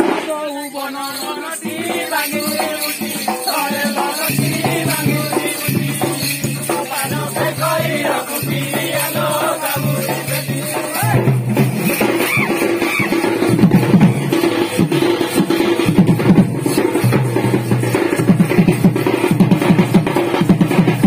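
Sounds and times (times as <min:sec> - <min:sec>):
folk dance music: 0:00.0 - 0:19.2
drum and rattling percussion: 0:00.0 - 0:21.0.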